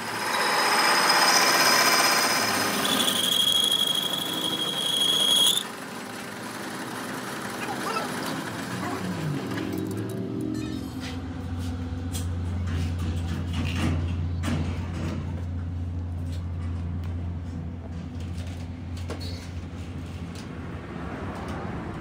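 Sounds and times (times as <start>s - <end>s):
low mechanical hum: 0.0s - 20.8s.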